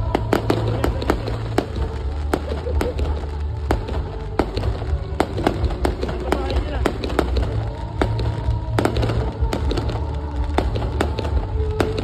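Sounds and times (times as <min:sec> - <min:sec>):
fireworks cracking: 0:00.0 - 0:12.0.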